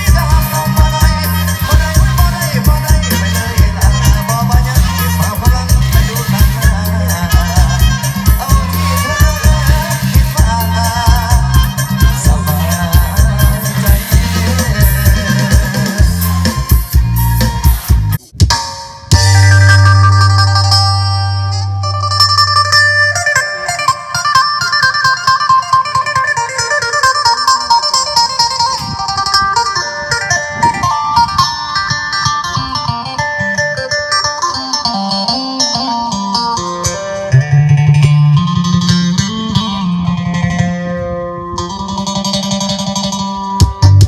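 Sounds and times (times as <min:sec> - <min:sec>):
bass line: 0:00.0 - 0:44.0
plucked guitar melody: 0:00.0 - 0:44.0.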